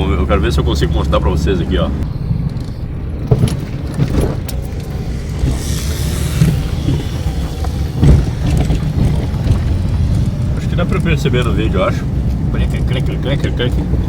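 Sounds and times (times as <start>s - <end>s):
road rumble: 0.0s - 14.0s.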